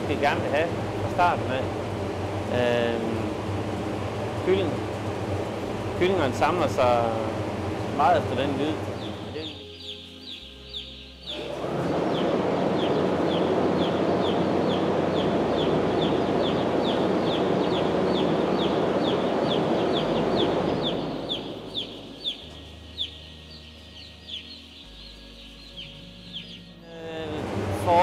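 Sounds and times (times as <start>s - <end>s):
chicks peeping: 0.0s - 28.0s
fan heater hum: 0.0s - 28.0s.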